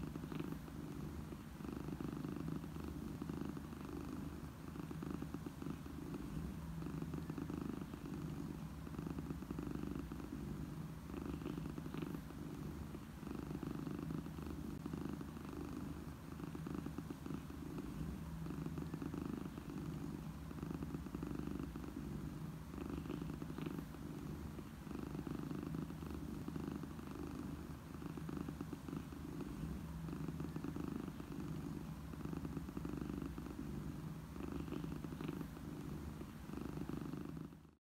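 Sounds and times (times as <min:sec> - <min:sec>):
cat purring: 0:00.0 - 0:37.8.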